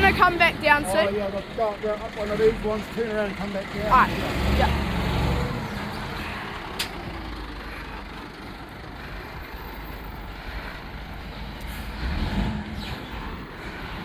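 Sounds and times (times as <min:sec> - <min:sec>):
garbage truck engine rumbling: 0:00.0 - 0:14.0.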